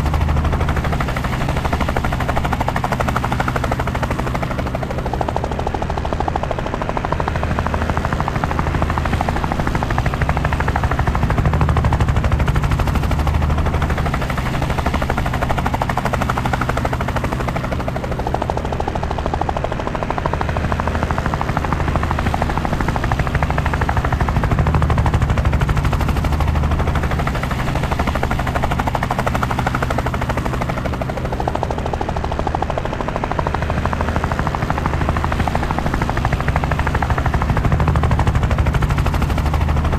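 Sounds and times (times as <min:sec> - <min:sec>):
helicopter rotor chop: 0:00.0 - 0:39.9
low engine drone: 0:00.0 - 0:39.9.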